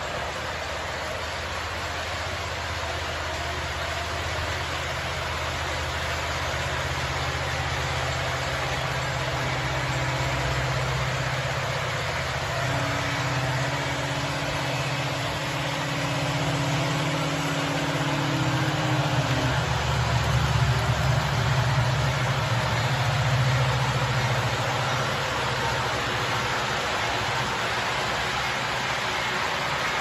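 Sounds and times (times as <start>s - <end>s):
diesel engine rumble: 0.0s - 30.0s
model train rolling on track: 0.0s - 30.0s.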